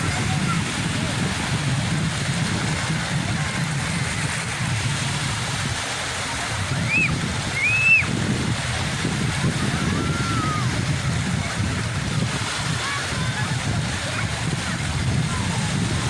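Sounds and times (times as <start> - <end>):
sea waves washing: 0.0 - 16.0.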